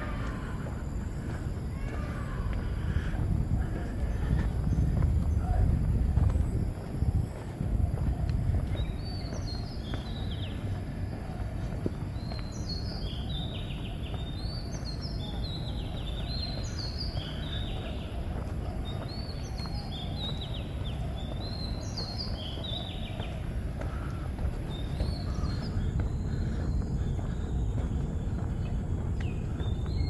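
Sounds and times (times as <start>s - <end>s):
low traffic rumble: 0.0s - 30.0s.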